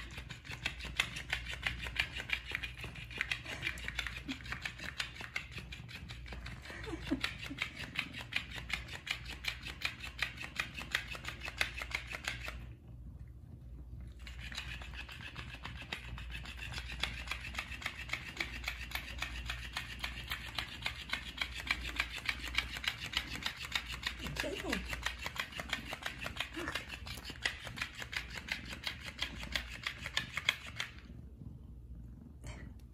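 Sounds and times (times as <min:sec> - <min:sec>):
toy tail flapping on wooden floor: 0:00.0 - 0:31.5.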